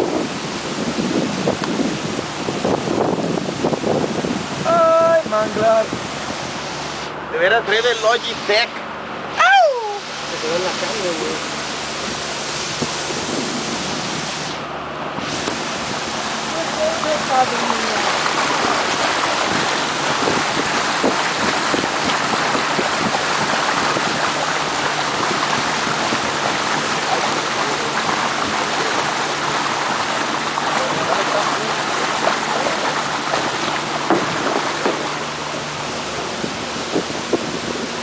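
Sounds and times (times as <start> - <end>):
boat motor humming: 0.0 - 38.0
water rushing along hull: 0.0 - 38.0.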